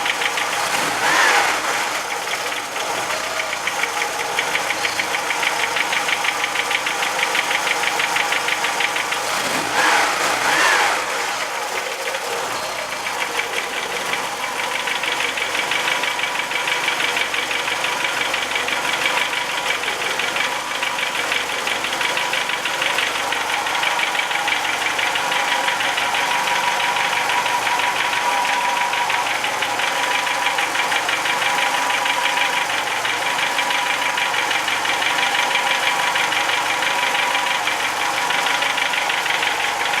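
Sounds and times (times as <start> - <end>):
car engine idling with knocking tick: 0.0 - 40.0.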